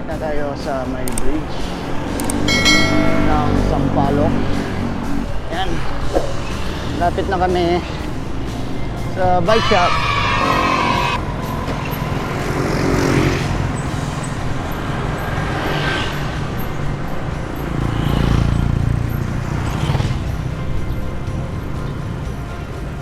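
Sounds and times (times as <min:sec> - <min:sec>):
low road rumble: 0:00.0 - 0:23.0
vehicles passing: 0:00.0 - 0:23.0.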